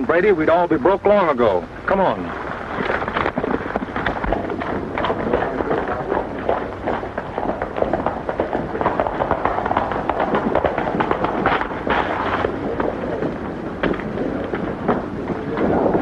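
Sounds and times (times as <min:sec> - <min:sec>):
horses galloping: 0:00.0 - 0:16.0.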